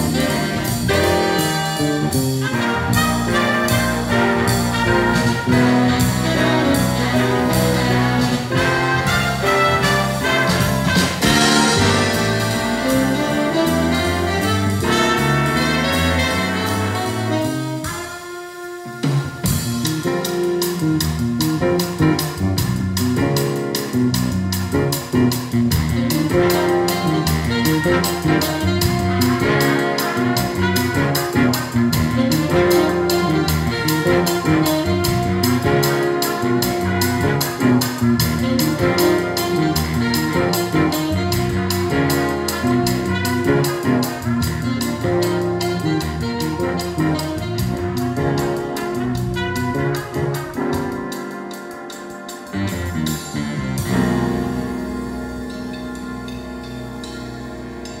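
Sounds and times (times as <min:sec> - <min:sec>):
jazz big band playing: 0:00.0 - 0:58.0
steady cymbal beat: 0:00.0 - 0:58.0.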